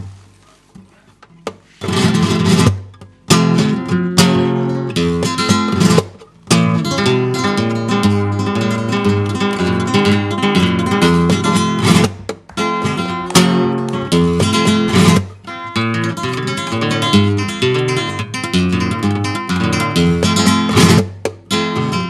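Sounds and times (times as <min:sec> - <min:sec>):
solo guitar playing: 0:01.7 - 0:22.0
hard strummed guitar chords: 0:01.8 - 0:22.0.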